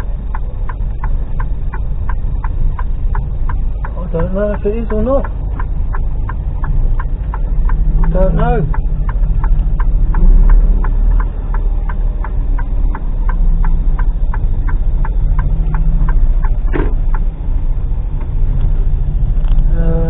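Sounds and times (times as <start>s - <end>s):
indicator relay ticking: 0.0s - 19.9s
diesel truck engine running: 0.0s - 20.0s.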